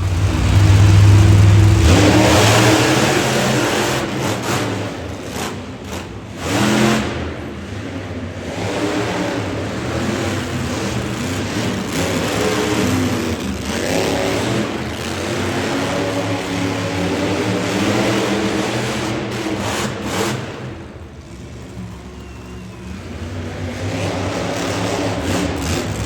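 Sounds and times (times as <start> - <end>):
monster truck engines revving: 0.0 - 26.0.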